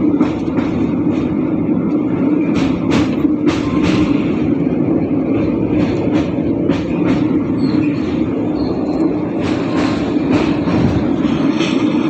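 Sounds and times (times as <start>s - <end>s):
wheels clacking over rail joints: 0.0s - 12.0s
wheels rumbling on rail: 0.0s - 12.0s.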